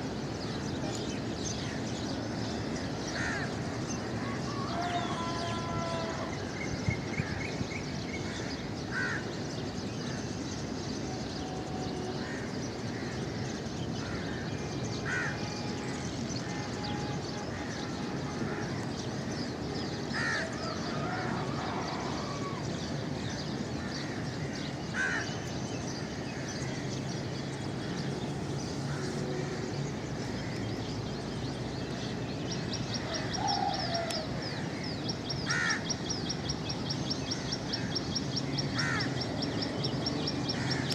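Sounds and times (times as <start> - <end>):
birds calling: 0.0 - 40.9
steady background noise: 0.0 - 40.9.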